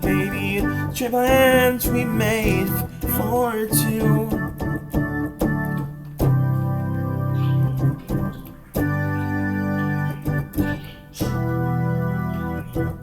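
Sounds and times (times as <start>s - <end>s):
keyboard organ-like chords: 0.0s - 13.0s.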